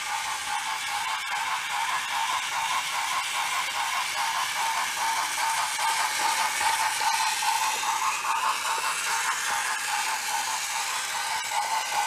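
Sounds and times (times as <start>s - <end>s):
toy train motor whirring: 0.0s - 12.0s
wheels clicking on wooden track: 0.0s - 12.0s.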